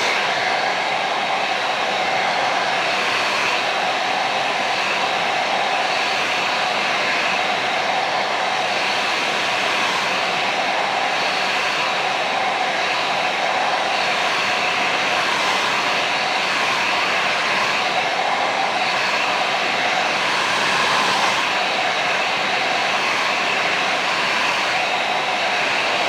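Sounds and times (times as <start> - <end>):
blow dryer running: 0.0 - 26.0.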